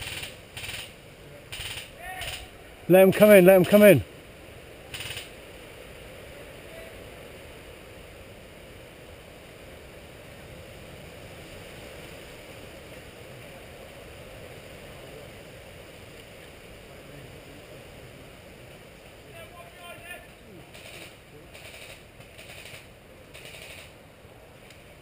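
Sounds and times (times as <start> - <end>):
faint outdoor background hiss: 0.0 - 25.0.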